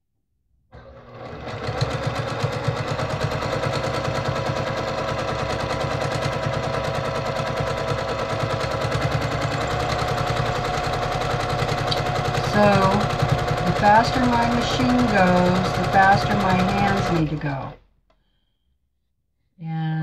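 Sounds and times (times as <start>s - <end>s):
sewing machine running: 0.8s - 17.8s.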